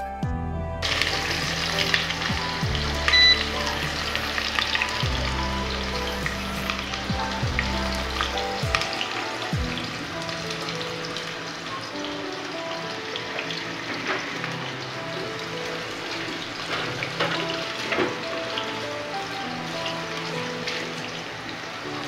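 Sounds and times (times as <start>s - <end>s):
background music with deep bass: 0.0s - 22.0s
liquid sizzling and bubbling: 0.8s - 22.0s.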